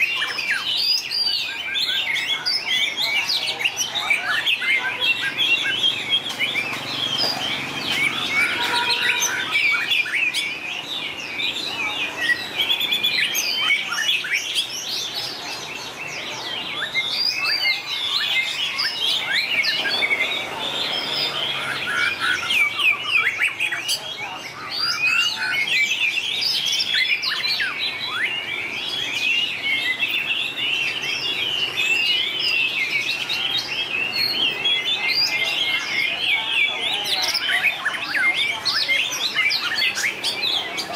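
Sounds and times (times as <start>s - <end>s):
songbirds whistling and trilling: 0.0s - 40.9s.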